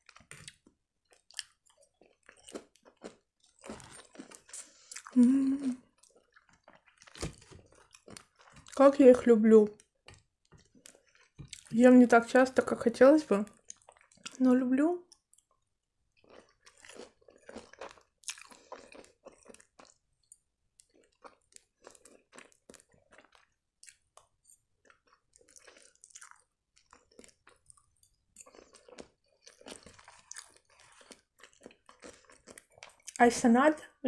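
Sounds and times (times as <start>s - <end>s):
close chewing with crunches: 0.0s - 11.9s, 13.4s - 14.5s, 15.1s - 20.0s, 20.8s - 33.2s.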